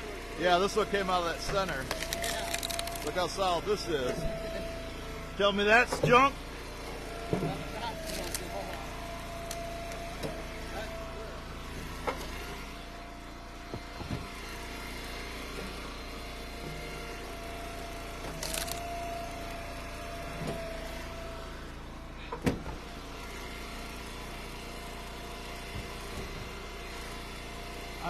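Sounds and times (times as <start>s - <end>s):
wood splitter engine running: 0.0s - 28.0s.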